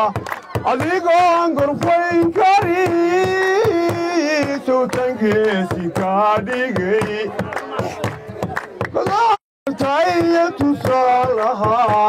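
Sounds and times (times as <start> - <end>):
man singing into microphone: 0.0 - 8.0, 9.0 - 12.0
quick percussion beat: 0.0 - 12.0.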